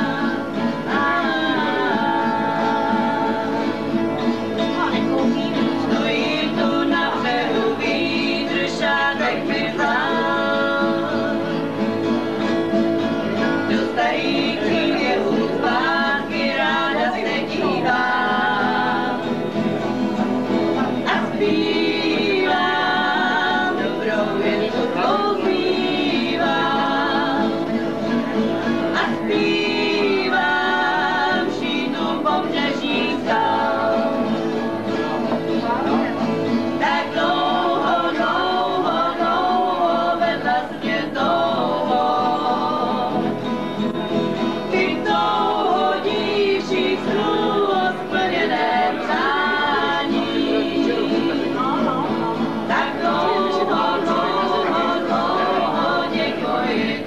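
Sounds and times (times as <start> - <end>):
people singing together: 0.0 - 57.0
strummed acoustic guitar: 0.0 - 57.0.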